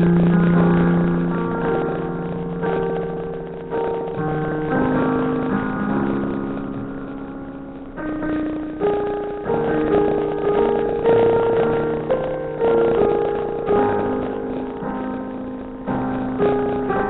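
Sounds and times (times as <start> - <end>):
slow piano playing: 0.0 - 17.0.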